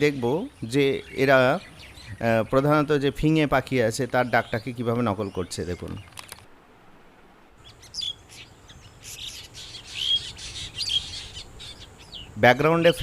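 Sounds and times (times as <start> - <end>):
drongo calling: 0.0 - 6.5, 7.6 - 13.0.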